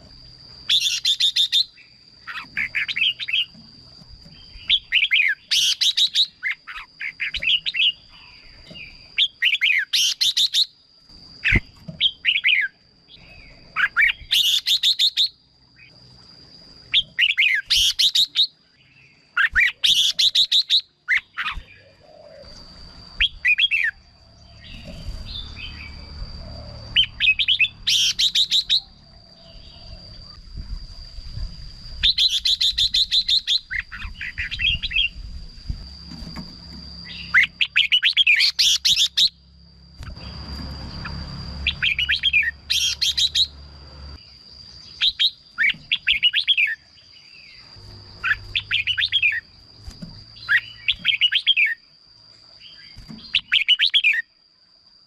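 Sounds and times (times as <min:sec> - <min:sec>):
bird singing warbled phrases: 0:00.7 - 0:03.6, 0:04.3 - 0:10.8, 0:11.4 - 0:15.9, 0:16.9 - 0:30.4, 0:32.0 - 0:35.2, 0:37.0 - 0:39.4, 0:41.0 - 0:43.7, 0:44.7 - 0:51.9, 0:52.6 - 0:54.3.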